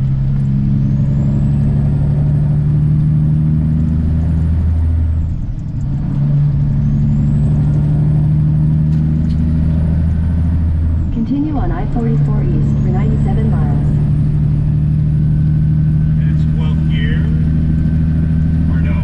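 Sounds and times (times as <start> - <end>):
truck diesel engine accelerating: 0.0 - 19.0
turbo whine: 0.0 - 19.0.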